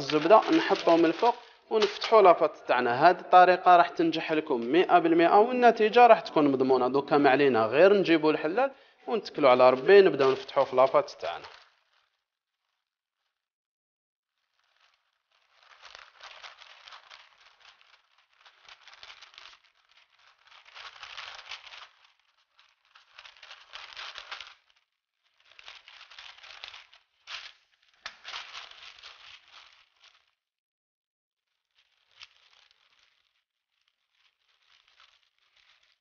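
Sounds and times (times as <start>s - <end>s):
baking paper crinkling: 0.0s - 13.5s, 14.3s - 30.5s, 31.4s - 36.0s.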